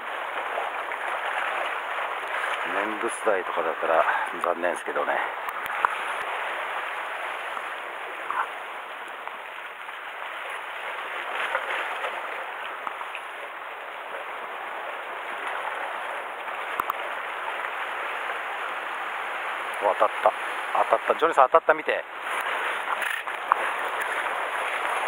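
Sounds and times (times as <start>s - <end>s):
sea water washing against rocks: 0.0s - 25.0s.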